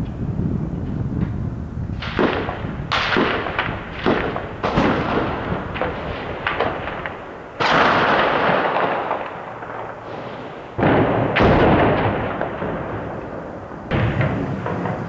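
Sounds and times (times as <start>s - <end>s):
heavy explosions echoing: 0.8s - 15.0s
faint gunshots: 2.0s - 15.0s.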